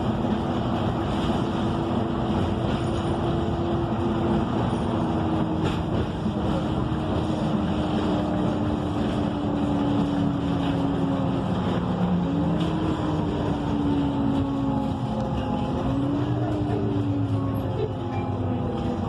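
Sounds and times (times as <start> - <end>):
bus engine hum from inside: 0.0 - 19.0.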